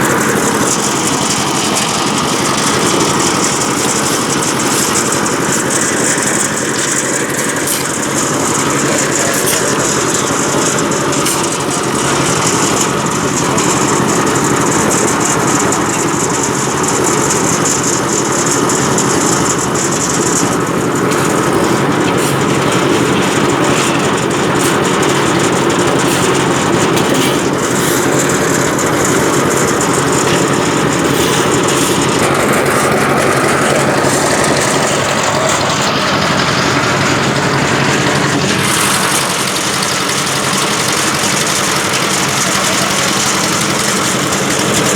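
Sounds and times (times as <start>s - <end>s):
concrete mixer engine running: 0.0s - 44.9s.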